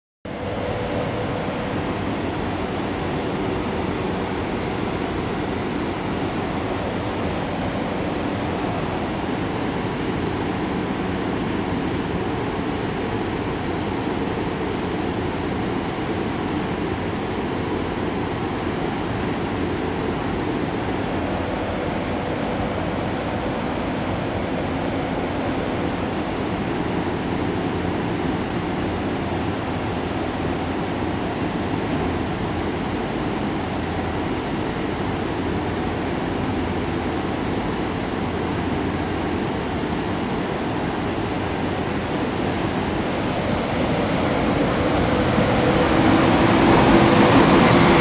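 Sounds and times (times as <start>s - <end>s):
faint high whine: 0.3s - 48.0s
train equipment hum: 0.3s - 48.0s.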